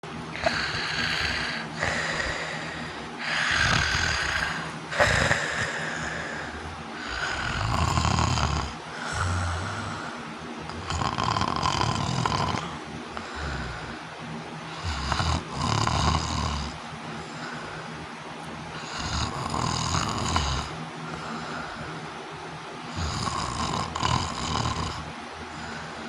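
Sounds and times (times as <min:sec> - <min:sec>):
loud rasping snoring: 0:00.3 - 0:14.1, 0:14.7 - 0:17.9, 0:18.8 - 0:22.0, 0:22.9 - 0:26.0.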